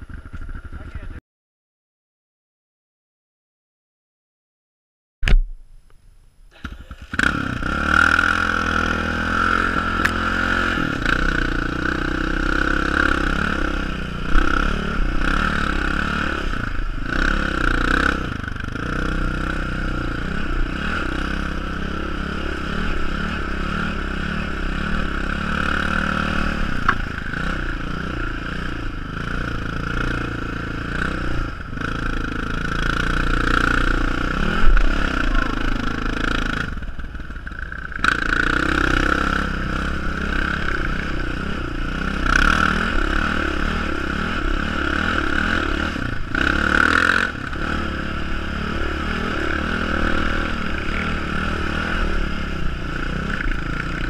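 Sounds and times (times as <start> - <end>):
quad engine revving: 6.5 - 54.0.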